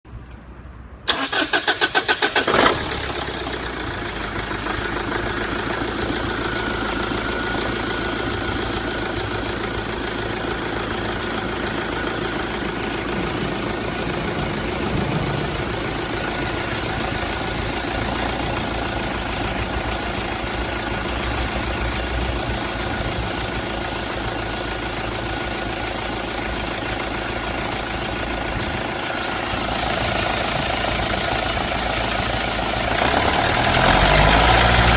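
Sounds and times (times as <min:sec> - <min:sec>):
diesel engine idling: 0:01.1 - 0:34.9
diesel engine starter cranking: 0:01.1 - 0:34.9.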